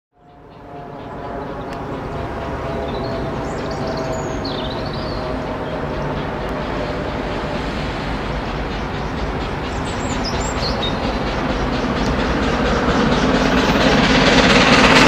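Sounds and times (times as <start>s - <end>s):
steam locomotive exhaust beats: 0.2s - 15.0s
train rumbling: 0.2s - 15.0s.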